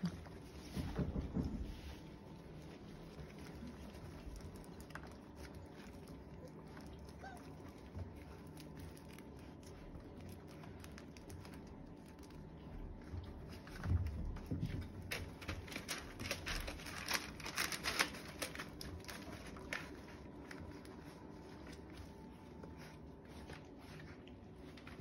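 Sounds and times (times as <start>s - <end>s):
puppies scrabbling: 0.0s - 11.7s, 12.5s - 25.0s.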